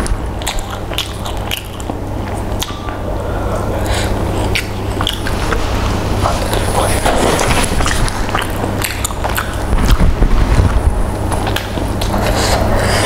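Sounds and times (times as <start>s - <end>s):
mouth smacking clicks: 0.0s - 5.6s, 6.2s - 13.0s
low hum: 0.0s - 13.0s
wet chewing: 0.0s - 13.0s.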